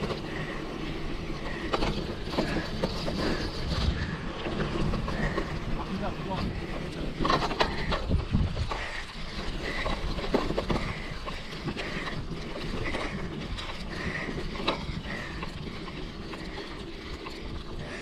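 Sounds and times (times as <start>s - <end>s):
bike rattling: 0.0s - 18.0s
bike tyres rumbling on dirt: 0.0s - 18.0s.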